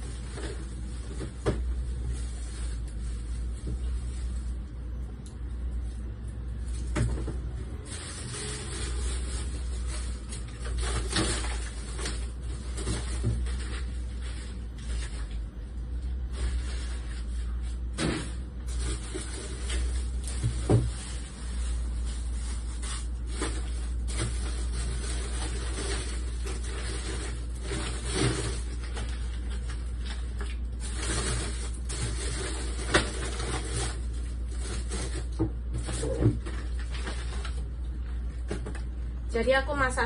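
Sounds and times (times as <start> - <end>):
refrigerator hum: 0.0 - 40.0.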